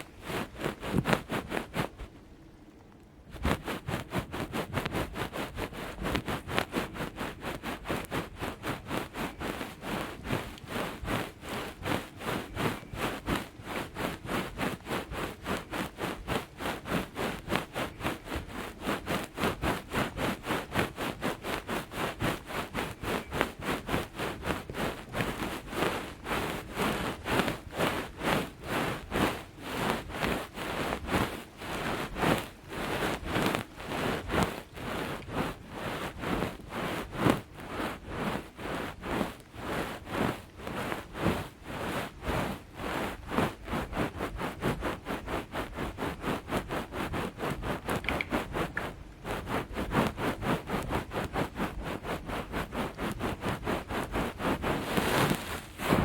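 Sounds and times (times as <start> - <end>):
scratching and rubbing on microphone: 0.0 - 2.2, 3.3 - 56.0.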